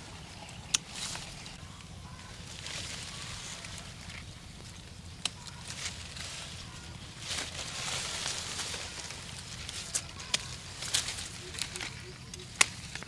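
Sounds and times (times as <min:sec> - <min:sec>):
leaves and branches rustling: 0:00.0 - 0:13.0.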